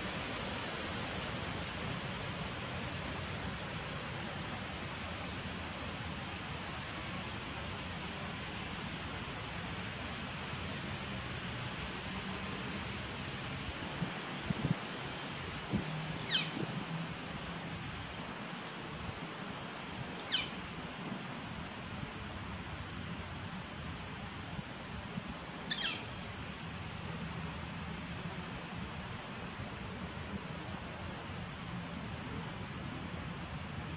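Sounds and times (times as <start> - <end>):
crickets trilling: 0.0 - 33.9.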